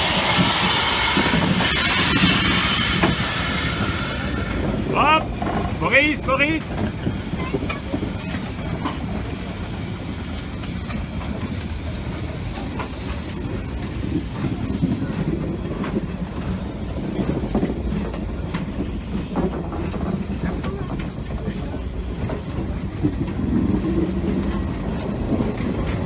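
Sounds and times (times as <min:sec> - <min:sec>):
train knocks: 0:00.0 - 0:26.0
train wheels rumbling on rail: 0:00.0 - 0:26.0.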